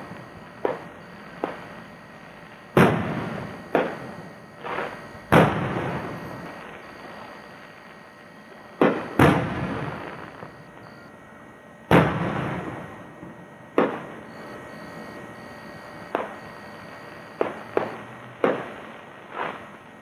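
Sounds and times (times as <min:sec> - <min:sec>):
fireworks booming with echo: 0:00.0 - 0:11.0, 0:11.8 - 0:20.0.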